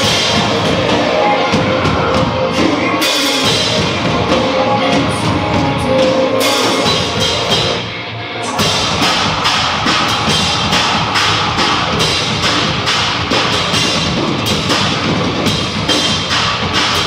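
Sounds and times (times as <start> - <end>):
rock drum kit: 0.0 - 17.0.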